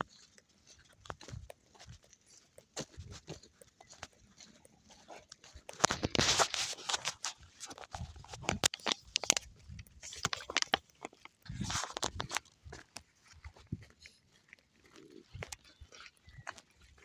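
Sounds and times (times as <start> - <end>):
dogs snuffling and breathing: 0.0 - 17.0
footsteps on gravel: 0.0 - 17.0.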